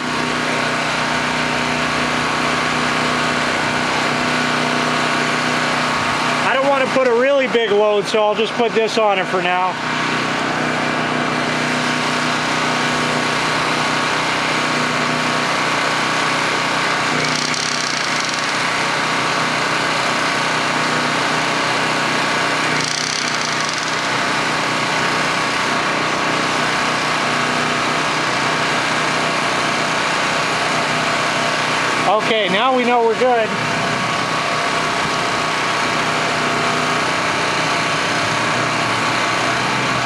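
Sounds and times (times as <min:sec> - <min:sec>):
generator engine running: 0:00.0 - 0:40.0.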